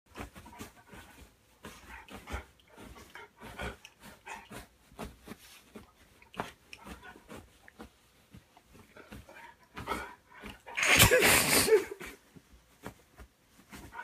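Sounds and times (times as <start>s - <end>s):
bedding rustling: 0.1s - 14.0s
dog sniffing: 0.2s - 11.8s.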